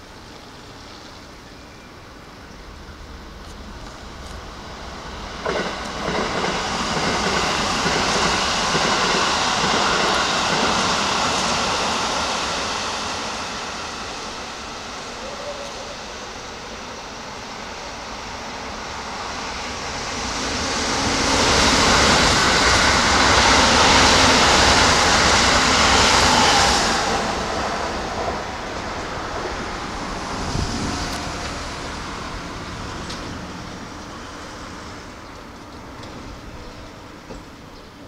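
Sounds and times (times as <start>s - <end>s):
train wheels rumbling on rails: 2.2s - 38.0s.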